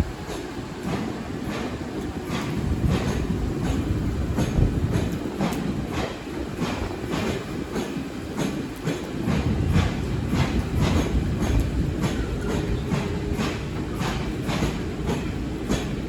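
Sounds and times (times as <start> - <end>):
train rumbling along track: 0.0 - 16.0
wheel clacks over rail joints: 0.2 - 16.0.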